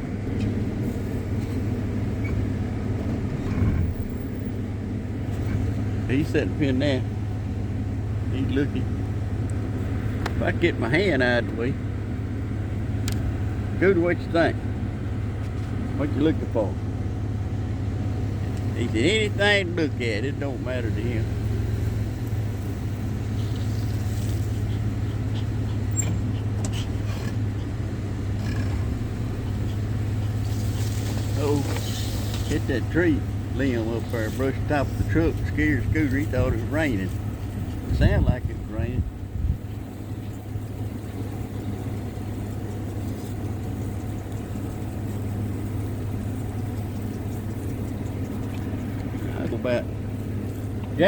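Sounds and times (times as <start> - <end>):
truck engine and road noise: 0.0 - 51.0.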